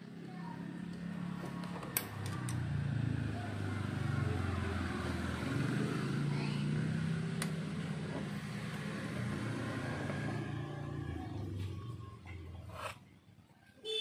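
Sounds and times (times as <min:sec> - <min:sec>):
vehicle engine drone: 0:00.0 - 0:13.4.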